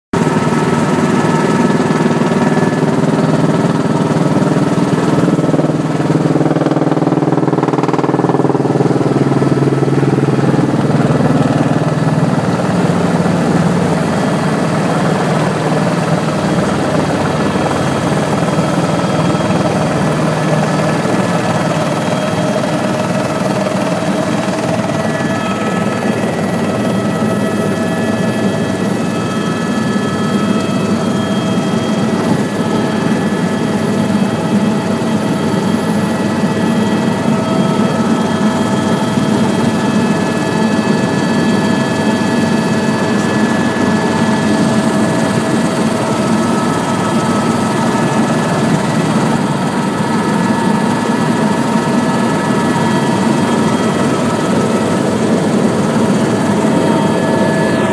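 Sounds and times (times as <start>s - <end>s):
helicopter rotor and engine drone: 0.1s - 57.9s.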